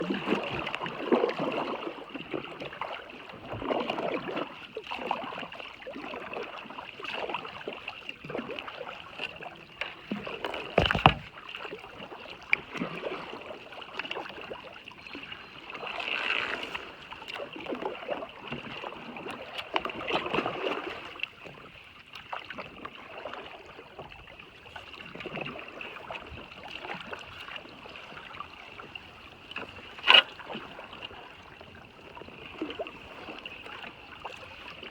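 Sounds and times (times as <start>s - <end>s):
paddle strokes swishing through water: 0.0s - 34.9s.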